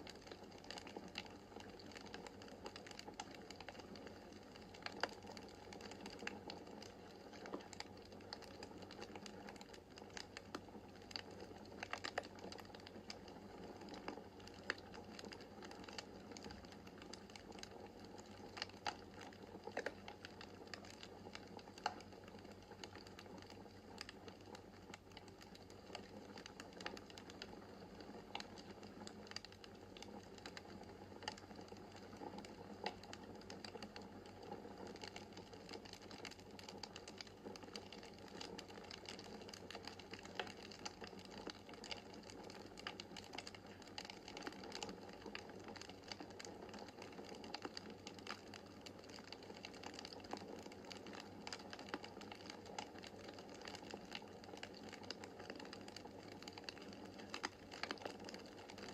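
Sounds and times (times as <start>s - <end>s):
logs crackling and popping: 0.0s - 58.9s.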